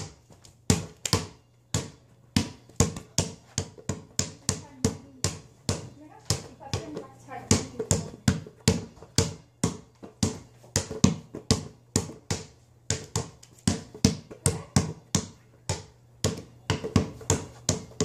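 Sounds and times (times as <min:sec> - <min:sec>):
basketball bouncing on floor: 0:00.0 - 0:18.0.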